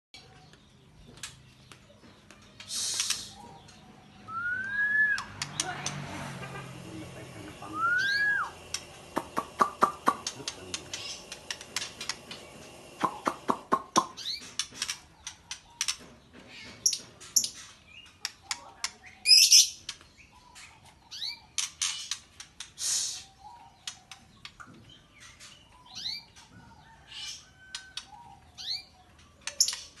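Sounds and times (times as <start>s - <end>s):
bird chirping: 0.2s - 30.0s
harsh bird calls: 0.2s - 30.0s.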